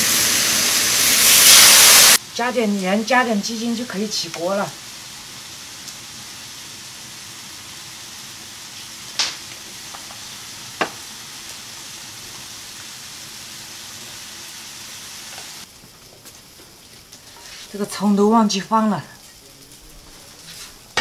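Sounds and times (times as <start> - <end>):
fish sizzling in a wok: 0.0 - 21.0.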